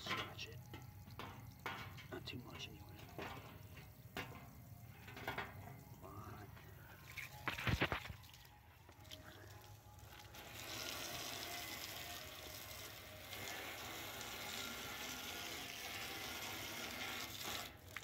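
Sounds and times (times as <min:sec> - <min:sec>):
hose water spraying on metal: 0:00.0 - 0:06.0, 0:07.0 - 0:18.0.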